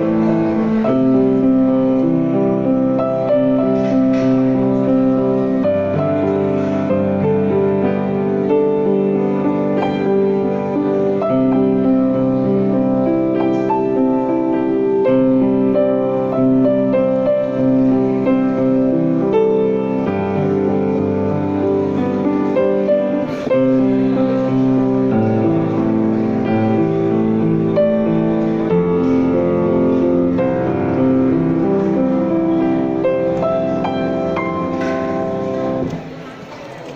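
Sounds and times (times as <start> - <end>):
slow piano melody: 0.0 - 36.9.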